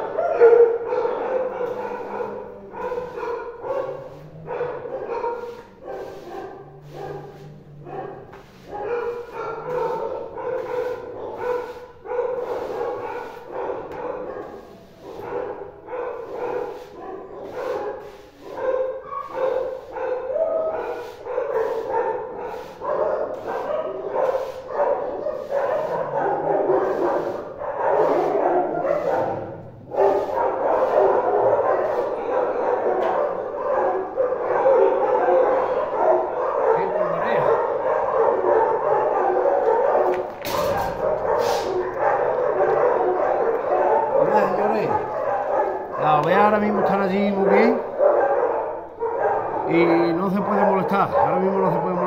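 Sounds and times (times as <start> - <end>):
dogs barking and yipping: 0.0 - 52.0.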